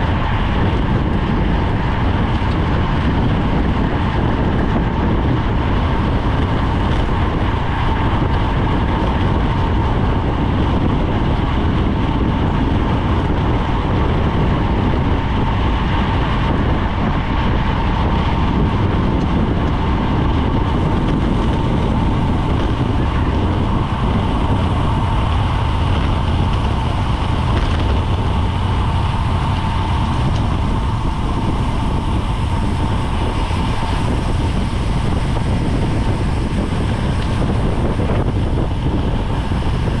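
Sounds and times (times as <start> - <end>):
faint steady whine: 0.0 - 40.0
wind rushing over microphone: 0.0 - 40.0.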